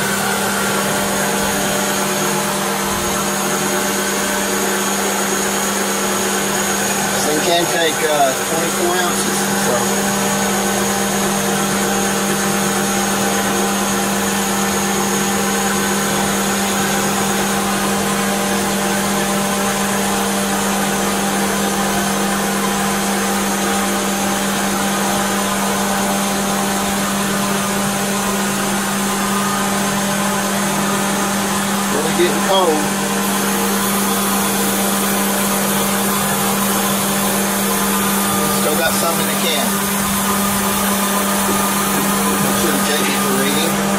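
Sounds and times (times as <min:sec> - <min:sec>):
car engine idling with fans: 0:00.0 - 0:43.9.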